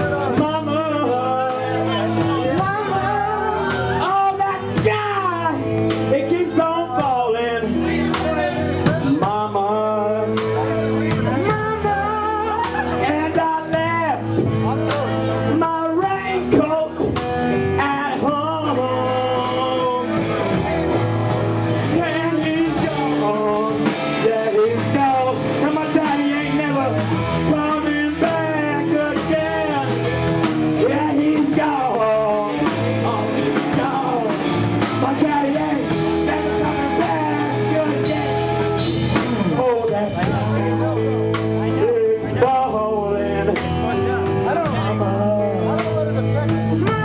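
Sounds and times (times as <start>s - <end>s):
live blues rock band: 0.0s - 47.0s
person singing: 0.0s - 47.0s.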